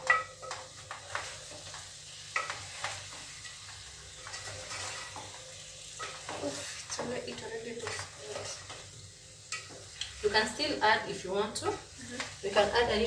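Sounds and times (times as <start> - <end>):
soft sizzle: 0.0 - 13.0.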